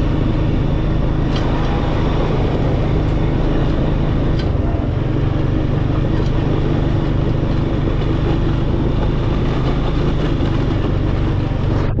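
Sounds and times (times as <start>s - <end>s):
atv engine running steadily: 0.0s - 12.0s.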